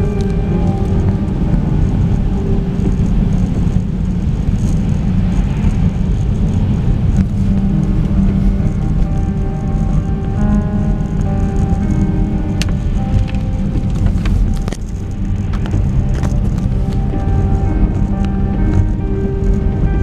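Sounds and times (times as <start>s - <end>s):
orchestral music: 0.0s - 4.4s, 6.1s - 20.0s
car cabin road rumble: 0.0s - 20.0s.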